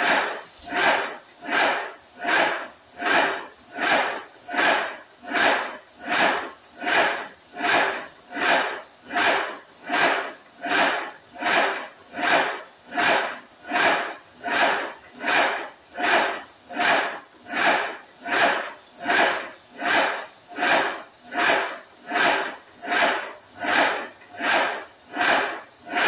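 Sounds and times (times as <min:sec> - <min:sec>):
paint sprayer pump hissing: 0:00.0 - 0:26.0.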